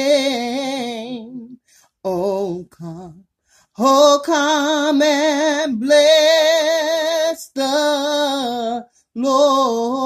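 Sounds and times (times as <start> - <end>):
woman singing a hymn solo: 0.0 - 3.2, 3.8 - 10.0.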